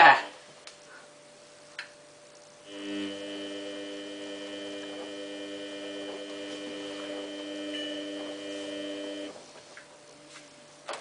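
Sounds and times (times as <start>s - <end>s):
washing machine electrical hum: 0.0s - 11.0s.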